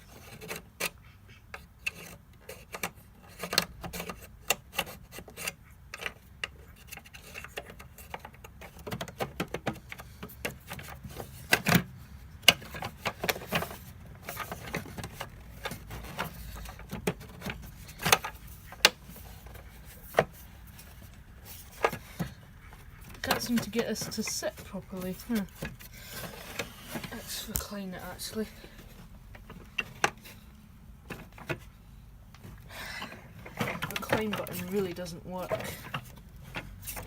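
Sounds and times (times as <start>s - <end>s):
plastic vacuum parts clicking and knocking: 0.1s - 37.0s.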